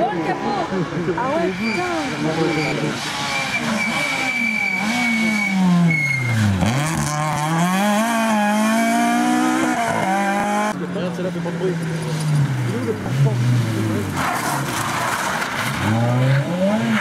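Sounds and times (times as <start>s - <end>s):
rally car engine revving: 0.8s - 17.0s.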